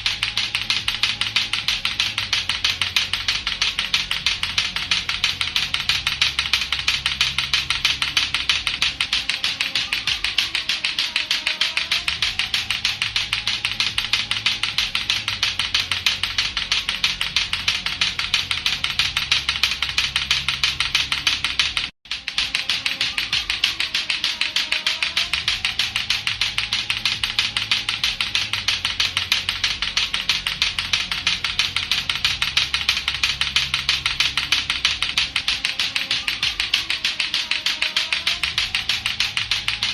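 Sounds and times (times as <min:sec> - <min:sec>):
clacker toy balls clacking: 0:00.0 - 0:39.9.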